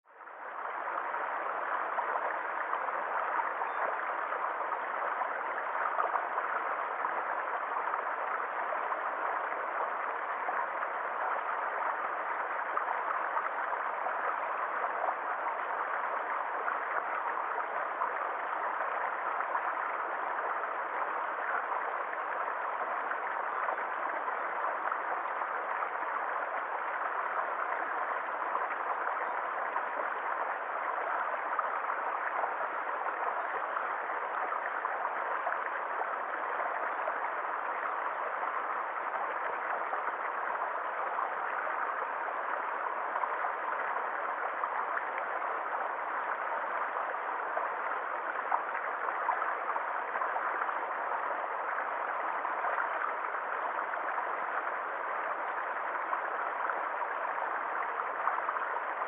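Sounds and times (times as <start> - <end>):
stream water splashing over rocks: 0.0 - 59.0.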